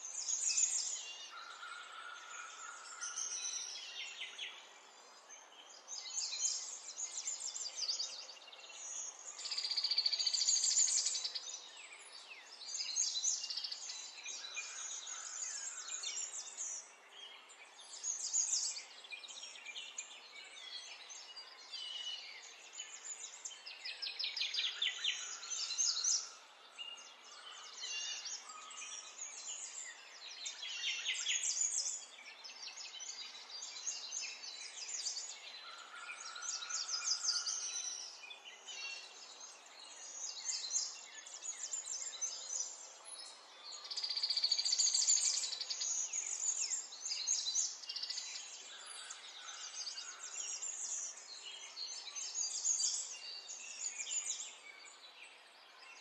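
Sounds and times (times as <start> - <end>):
birds chirping and singing: 5.5 - 56.0.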